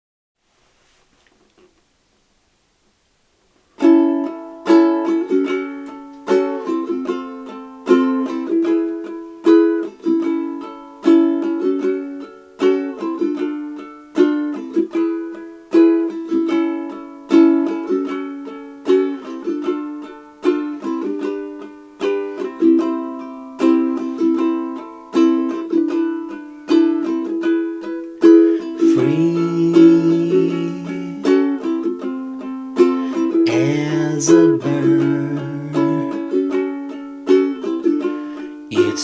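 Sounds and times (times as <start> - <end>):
ukulele strumming chords: 3.8 - 39.0.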